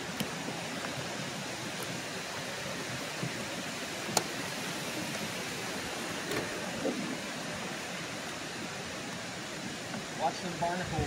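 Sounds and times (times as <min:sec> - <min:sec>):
rushing wind: 0:00.0 - 0:11.0.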